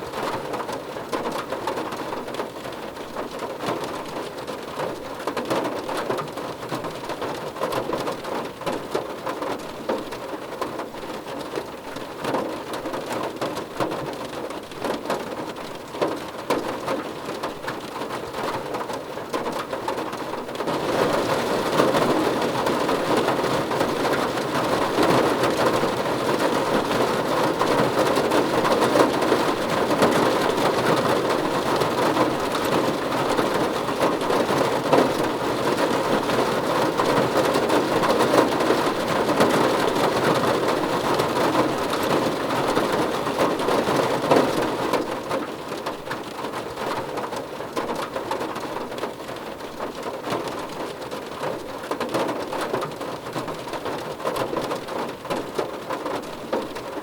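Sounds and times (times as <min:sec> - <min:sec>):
rain drumming on a car roof: 0:00.0 - 0:57.0.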